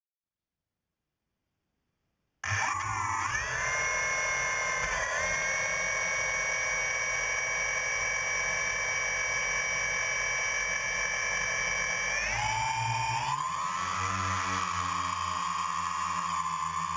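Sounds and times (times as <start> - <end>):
drone propellers whining: 2.4 - 16.9.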